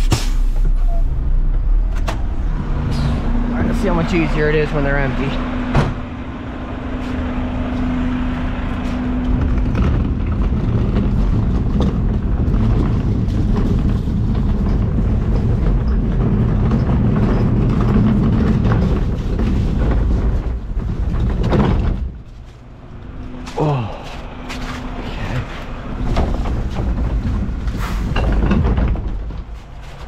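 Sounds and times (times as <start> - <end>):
garbage truck engine rumbling: 0.0 - 30.0.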